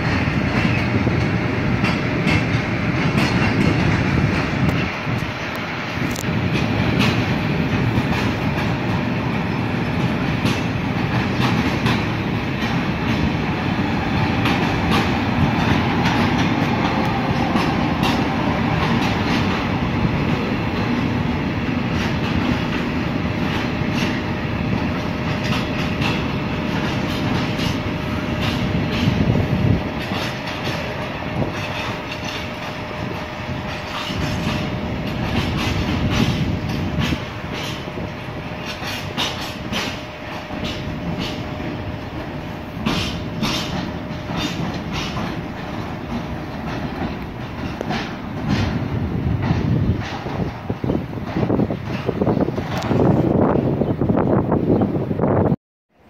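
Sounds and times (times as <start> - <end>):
wheels clicking over rail joints: 0.0 - 53.9
freight train rolling past: 0.0 - 56.0.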